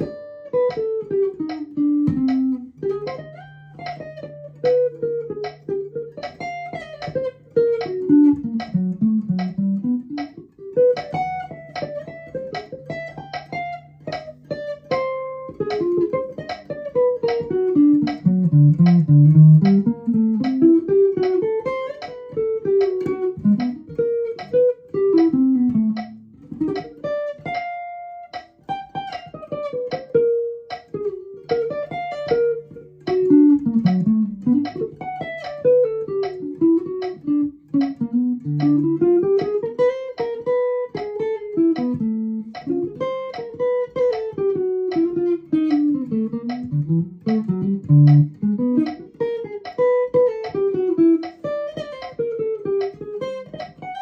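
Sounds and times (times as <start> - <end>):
jazz guitar single-note lines: 0.0 - 54.0.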